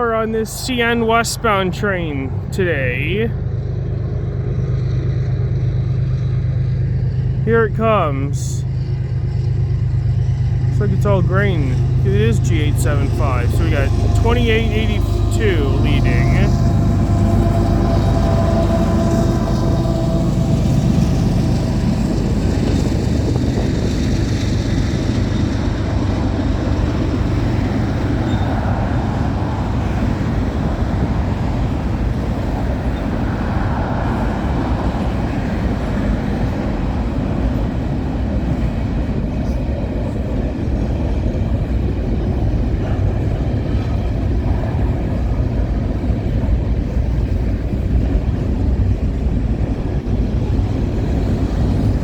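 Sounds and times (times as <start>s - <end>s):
freight train wheels rumbling: 0.0s - 52.0s.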